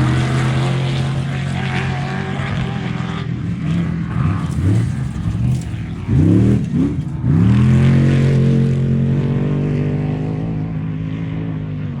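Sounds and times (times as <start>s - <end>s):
truck engine revving: 0.0s - 10.4s.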